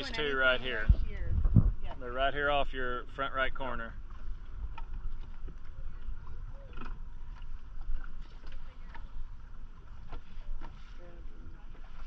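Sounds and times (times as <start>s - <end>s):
faint splashes: 0.0s - 12.0s
low uneven rumble: 0.0s - 12.0s
water washing against hull: 0.0s - 12.0s.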